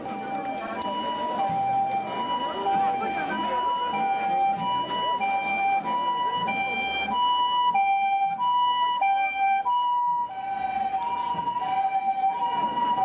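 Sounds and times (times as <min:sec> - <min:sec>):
two-tone ambulance siren: 0:00.0 - 0:13.0.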